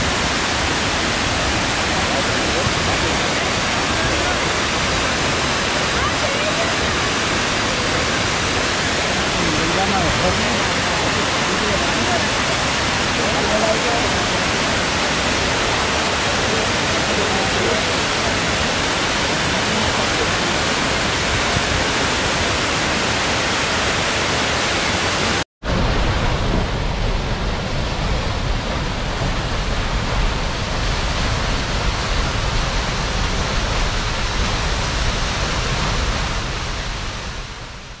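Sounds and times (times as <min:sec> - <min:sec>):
heavy waterfall rushing: 0:00.0 - 0:38.0.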